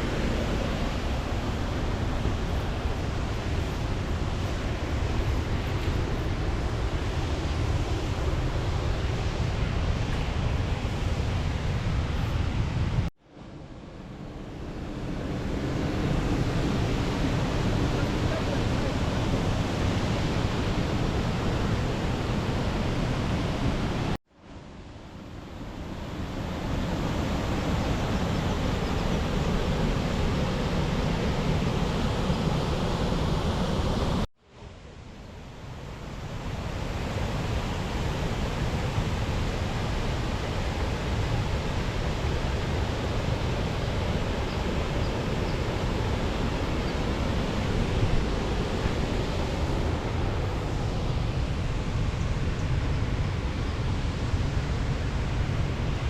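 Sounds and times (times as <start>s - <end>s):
steady rushing outdoor noise: 0.0s - 56.0s.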